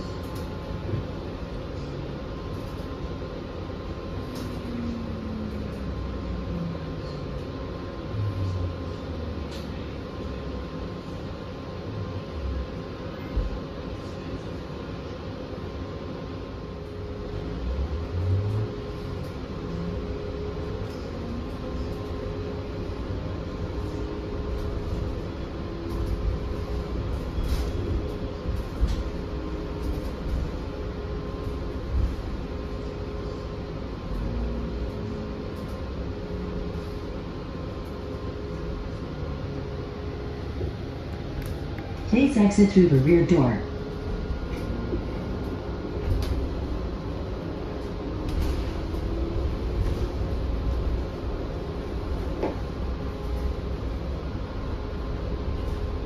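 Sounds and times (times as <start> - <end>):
bus drive and road rumble: 0.0 - 56.0
faint steady whine: 0.0 - 56.0.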